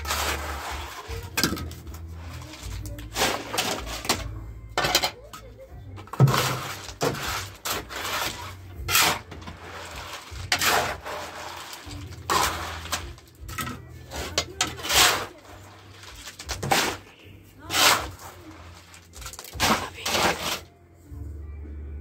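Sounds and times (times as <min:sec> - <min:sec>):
tool scraping wet gravel mix: 0:00.0 - 0:04.3, 0:06.1 - 0:20.7.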